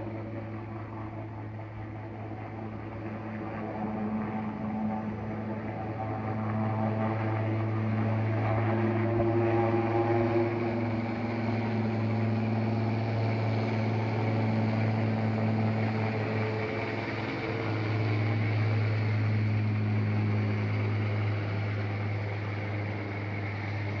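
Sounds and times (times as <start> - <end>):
helicopter flying: 0.0 - 24.0.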